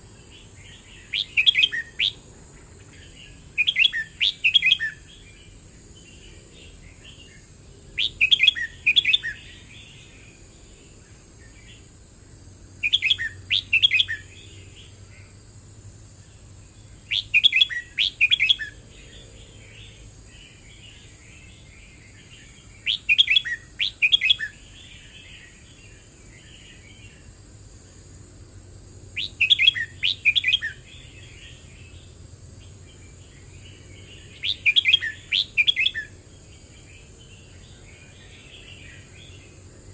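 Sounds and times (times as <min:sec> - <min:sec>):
soft bird twittering: 0:00.0 - 0:11.8, 0:12.8 - 0:15.3, 0:16.2 - 0:27.3, 0:29.2 - 0:39.6
bird singing loud phrases: 0:00.0 - 0:12.0, 0:12.8 - 0:15.4, 0:16.1 - 0:28.0, 0:29.1 - 0:39.9.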